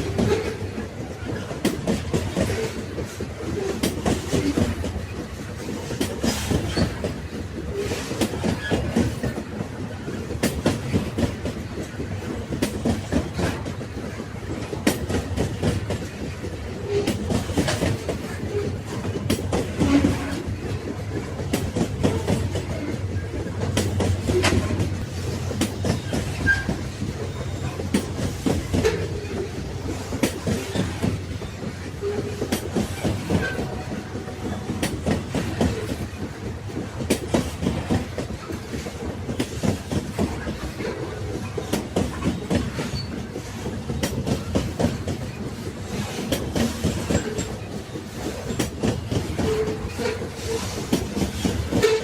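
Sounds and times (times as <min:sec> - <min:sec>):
train wagons rolling on track: 0:00.0 - 0:52.0.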